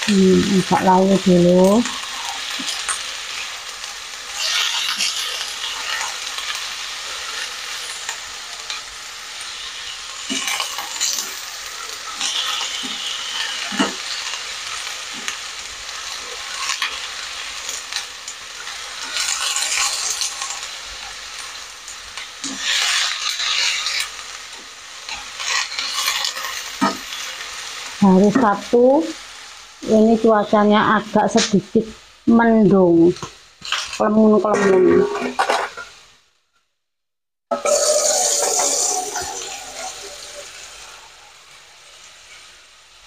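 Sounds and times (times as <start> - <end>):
spatula scraping wok: 0.0 - 29.7, 33.2 - 36.1, 37.5 - 41.3
vegetables sizzling in oil: 0.0 - 36.5, 37.5 - 43.0.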